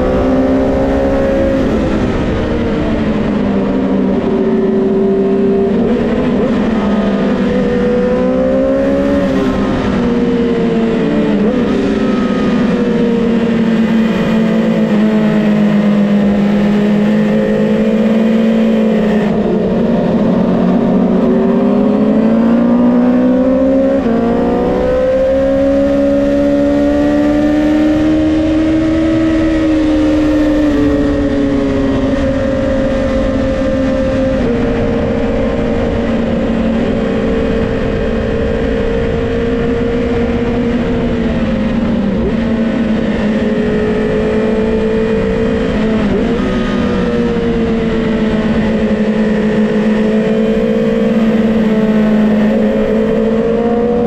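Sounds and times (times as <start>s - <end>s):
motorcycle engine revving: 0.0s - 54.0s
wind rush on microphone: 0.0s - 54.0s.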